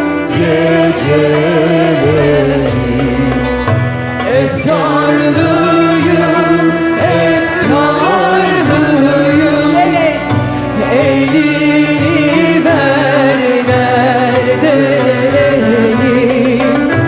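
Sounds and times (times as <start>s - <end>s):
mixed choir singing: 0.0s - 16.7s
instrumental accompaniment: 0.0s - 17.0s.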